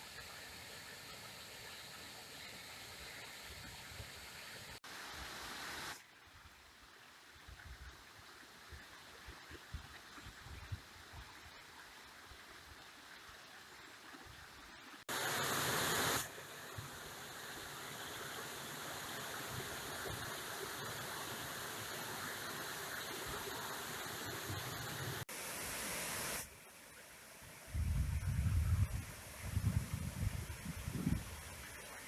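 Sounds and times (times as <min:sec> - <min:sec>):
stream and waterfall rushing: 0:00.0 - 0:07.3, 0:11.6 - 0:27.8, 0:28.8 - 0:32.0.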